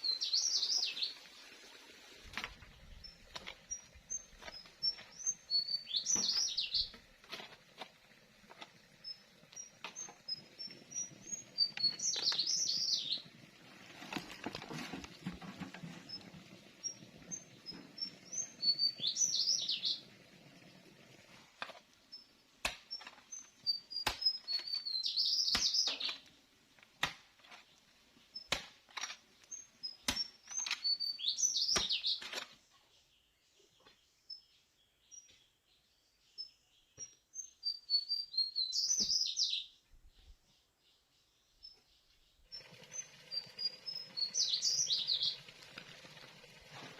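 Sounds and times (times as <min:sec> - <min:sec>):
songbird singing: 0:00.0 - 0:01.2, 0:02.5 - 0:07.0, 0:08.8 - 0:20.2, 0:22.0 - 0:26.4, 0:27.4 - 0:45.6.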